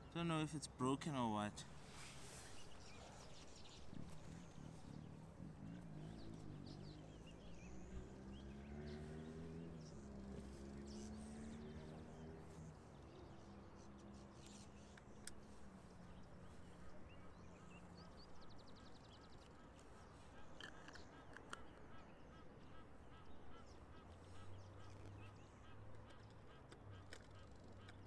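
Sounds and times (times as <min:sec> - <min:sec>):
distant bird calls: 0:00.0 - 0:28.0.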